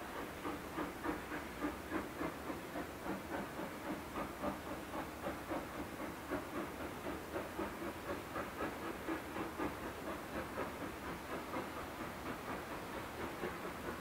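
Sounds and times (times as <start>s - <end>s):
steam locomotive exhaust beating: 0.0s - 14.0s.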